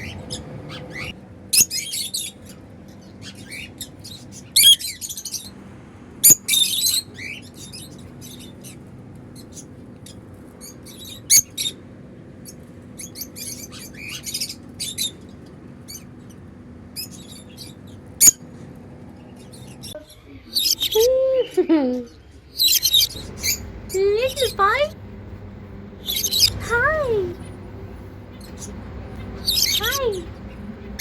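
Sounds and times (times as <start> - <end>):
birds chirping shrilly: 0.0 - 21.2, 22.1 - 31.0.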